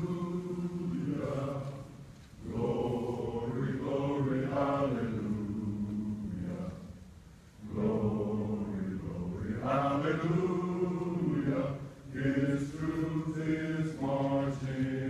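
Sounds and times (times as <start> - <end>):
voices singing together: 0.0 - 15.0.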